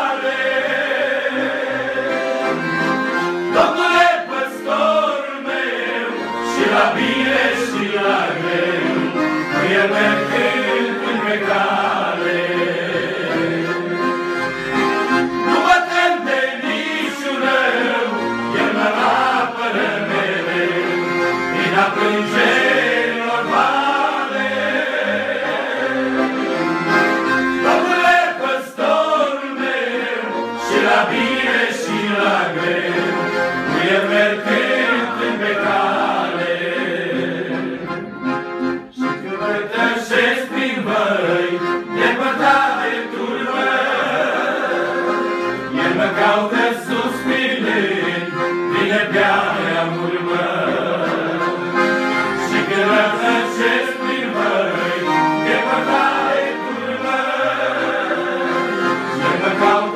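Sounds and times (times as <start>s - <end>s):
men singing together: 0.0s - 2.6s, 3.5s - 14.1s, 15.5s - 26.5s, 27.6s - 38.0s, 39.2s - 59.9s
accordion: 0.0s - 59.9s.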